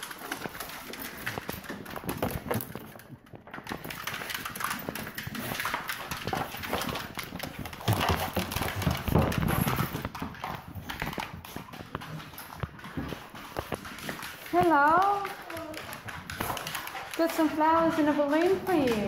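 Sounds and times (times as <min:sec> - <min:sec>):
footsteps: 0:00.0 - 0:19.0.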